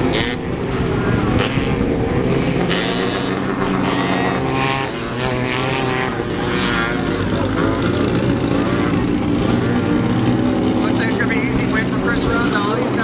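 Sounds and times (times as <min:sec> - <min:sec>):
racing buggy engines revving: 0:00.0 - 0:13.0.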